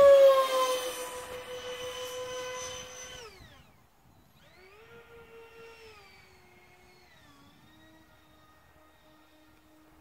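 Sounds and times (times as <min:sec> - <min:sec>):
model jet motor whine: 0:00.0 - 0:10.0.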